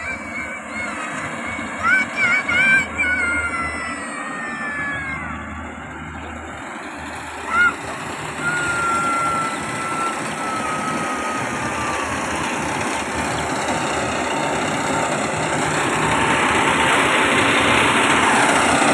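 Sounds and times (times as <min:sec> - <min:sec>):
combine harvester running: 0:00.0 - 0:18.9
thin mechanical whine: 0:00.0 - 0:18.9.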